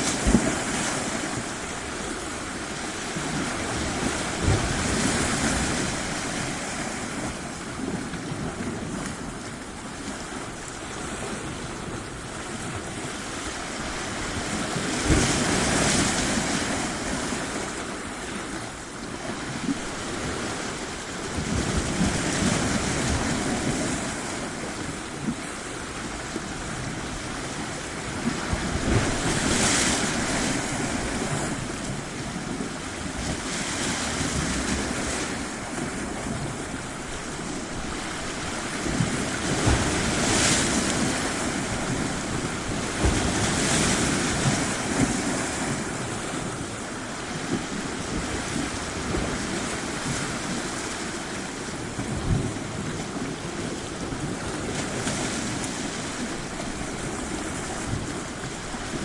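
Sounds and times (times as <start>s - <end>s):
sea surf washing onto shore: 0.0s - 59.0s
wind buffeting microphone: 0.0s - 59.0s.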